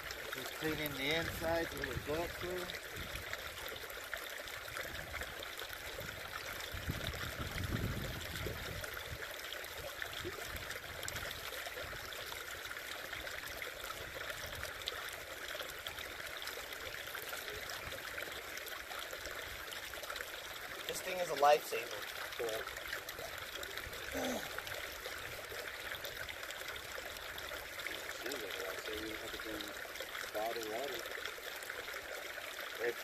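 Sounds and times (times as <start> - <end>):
creek water trickling: 0.0 - 33.0.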